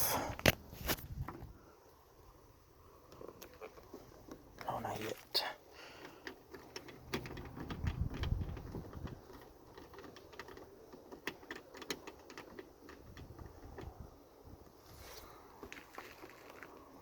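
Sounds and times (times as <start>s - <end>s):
low rumble of handling: 0.3s - 17.0s.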